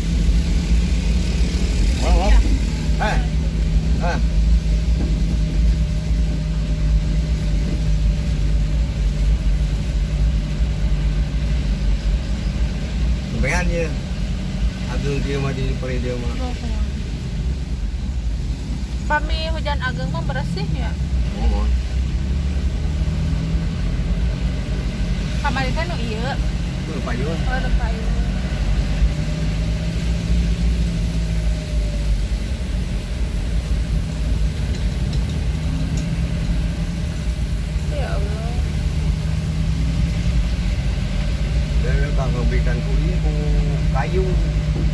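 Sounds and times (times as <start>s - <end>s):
vehicle engine and road rumble: 0.0s - 44.9s.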